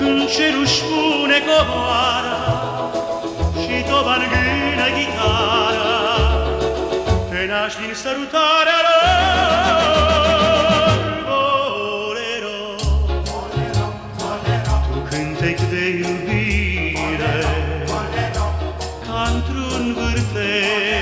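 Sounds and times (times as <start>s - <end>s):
band accompaniment: 0.0s - 8.0s, 8.9s - 21.0s
man singing with vibrato: 0.0s - 21.0s.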